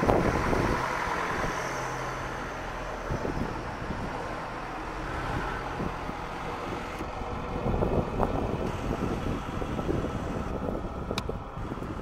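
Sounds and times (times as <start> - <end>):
jet airliner passing overhead: 0.0 - 12.0.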